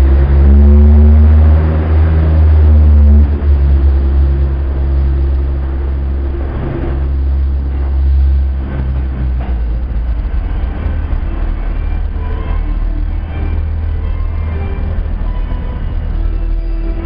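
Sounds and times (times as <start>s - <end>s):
steady multi-tone hum: 0.0s - 17.0s
train wheels rumbling on rail: 0.0s - 17.0s.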